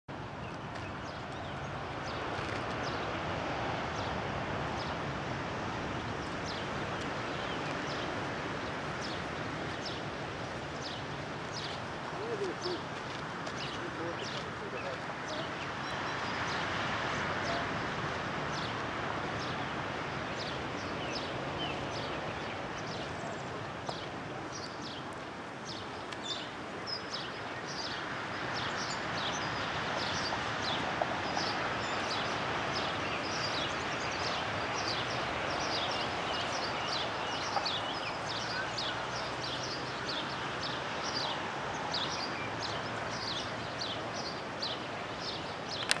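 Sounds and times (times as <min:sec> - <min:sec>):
outdoor background noise: 0:00.1 - 0:46.0.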